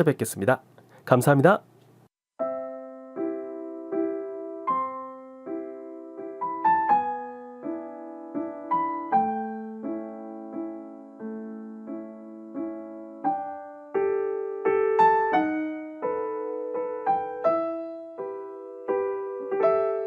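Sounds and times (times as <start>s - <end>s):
soft piano music: 2.4s - 20.0s.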